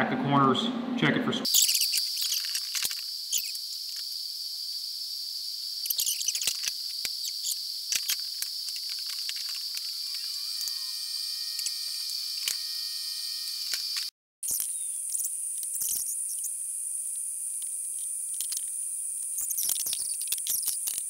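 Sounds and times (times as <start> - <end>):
welding arc buzzing with hiss: 1.5 - 21.0.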